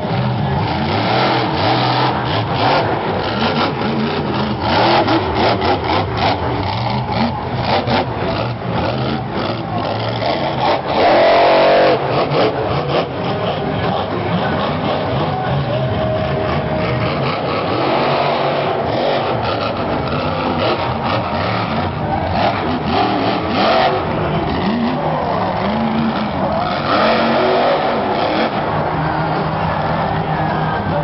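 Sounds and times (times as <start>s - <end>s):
monster truck engine revving: 0.0s - 31.0s.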